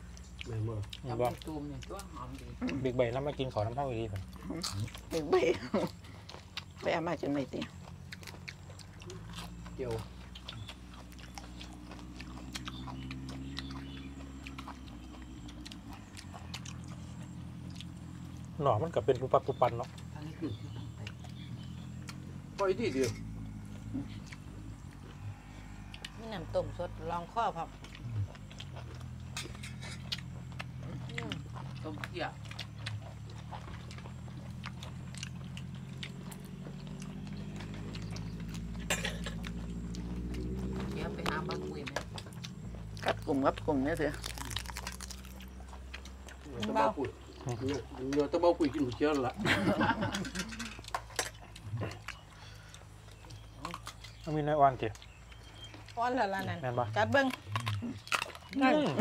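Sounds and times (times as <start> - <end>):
person chewing with lip smacks: 0.0 - 3.5, 5.9 - 6.8, 7.7 - 22.6, 23.5 - 26.2, 27.7 - 49.4, 50.4 - 56.0, 57.3 - 58.7
low hum: 0.0 - 59.0.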